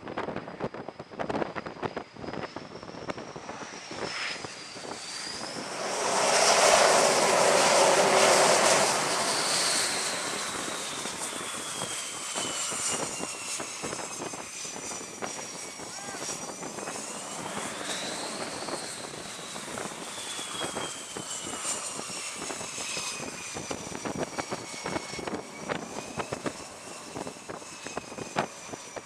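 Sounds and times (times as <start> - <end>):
jet engine roar: 0.0 - 29.0
jet engine turbine whine: 0.0 - 29.0.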